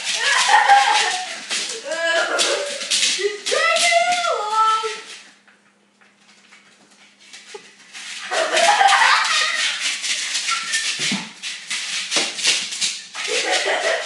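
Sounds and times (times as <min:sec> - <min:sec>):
dog claws scratching a mat: 0:00.0 - 0:05.4, 0:06.1 - 0:14.0.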